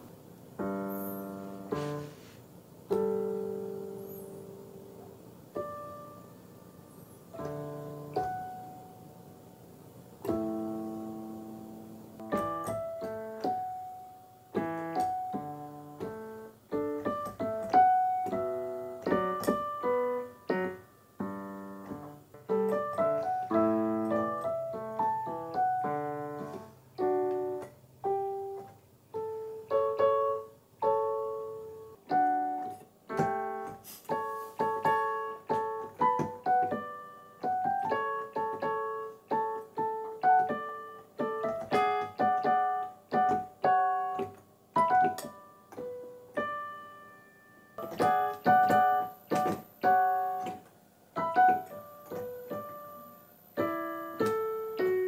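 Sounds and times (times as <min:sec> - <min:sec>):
digital piano notes and chords: 0:00.6 - 0:02.2, 0:02.9 - 0:55.0.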